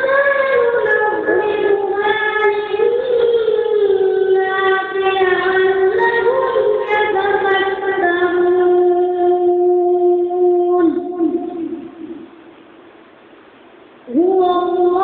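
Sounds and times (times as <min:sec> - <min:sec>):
high voice chanting: 0:00.0 - 0:12.5, 0:14.1 - 0:15.0.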